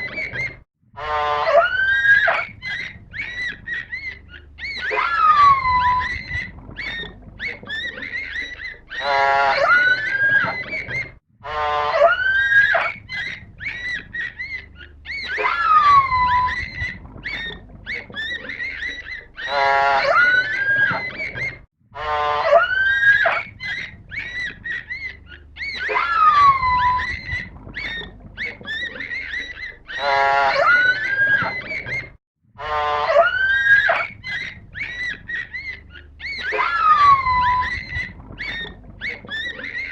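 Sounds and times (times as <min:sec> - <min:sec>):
buzzy animal call: 0:00.0 - 0:39.9.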